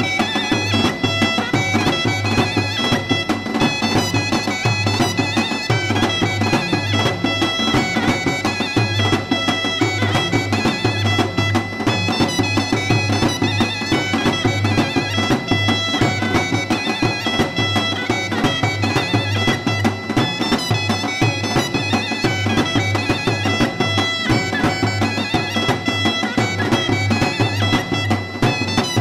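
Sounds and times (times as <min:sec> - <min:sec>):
drum beat: 0:00.0 - 0:29.0
reedy wind instrument melody: 0:00.0 - 0:29.0.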